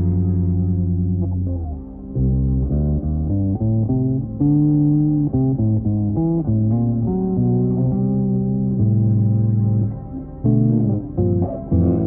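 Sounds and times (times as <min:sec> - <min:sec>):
bass guitar plucked notes: 0:00.0 - 0:12.0.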